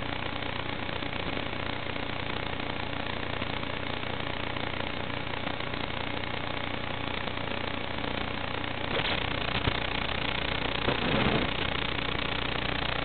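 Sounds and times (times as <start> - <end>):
quadcopter buzzing in flight: 0.0 - 13.0.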